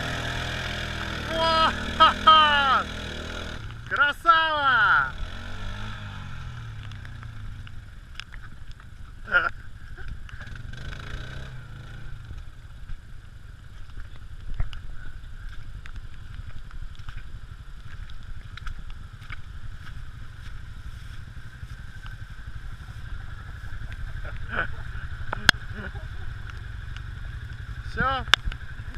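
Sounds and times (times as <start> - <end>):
vehicle engine low rumble: 0.0 - 28.9.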